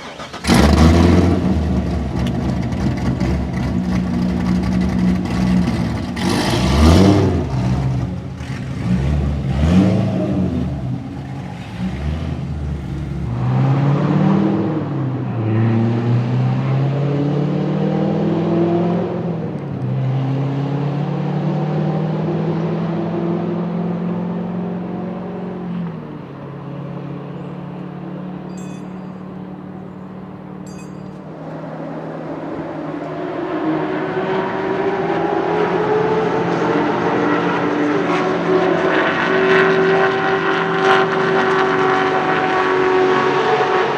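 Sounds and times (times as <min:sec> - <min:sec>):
car engine revving: 0:00.0 - 0:28.4, 0:31.2 - 0:43.9.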